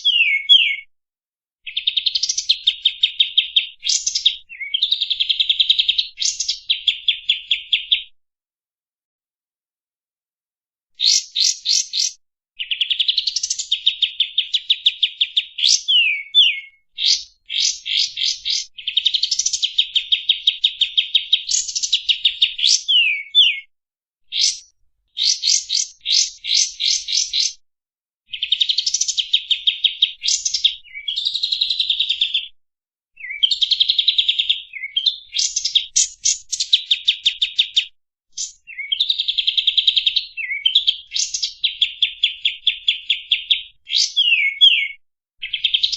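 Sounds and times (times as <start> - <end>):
songbird chirping and trilling: 0.0 - 0.9, 1.7 - 8.2, 11.0 - 23.7, 24.3 - 27.6, 28.3 - 32.5, 33.2 - 45.9.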